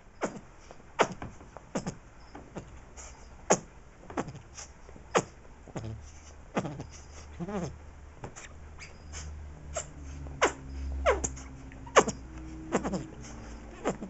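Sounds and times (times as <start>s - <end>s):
squeaky toy squeezed fart-like noises: 0.2s - 14.0s.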